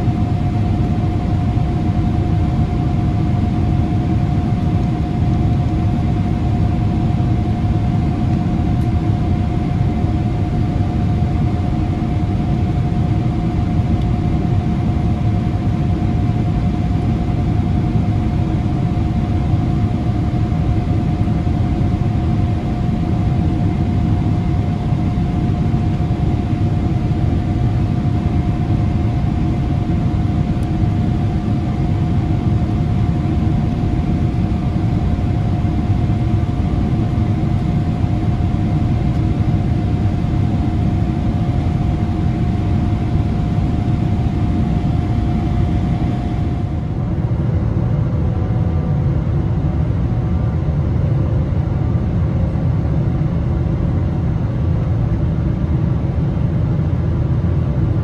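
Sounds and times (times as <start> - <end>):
airplane cabin engine rumble: 0.0 - 58.0
thin steady hum: 0.0 - 58.0.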